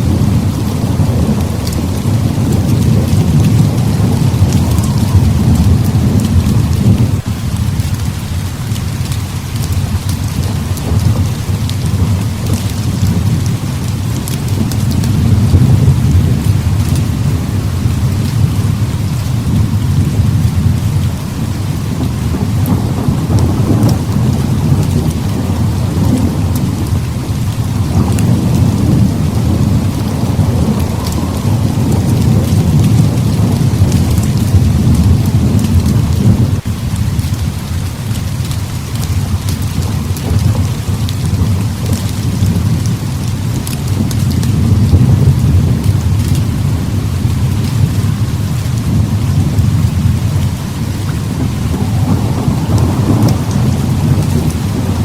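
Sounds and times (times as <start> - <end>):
heavy rain falling: 0.0 - 55.0
rolling thunder: 0.0 - 55.0.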